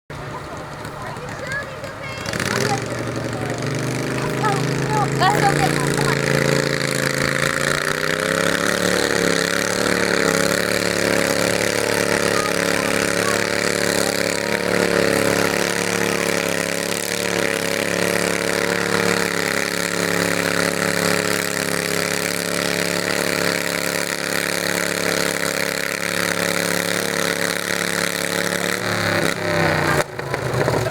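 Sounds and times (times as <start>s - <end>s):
tractor engine running steadily: 0.1s - 30.9s.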